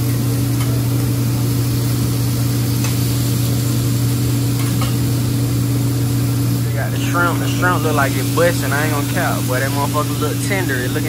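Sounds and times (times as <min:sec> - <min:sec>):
exhaust hood fan humming: 0:00.0 - 0:11.0.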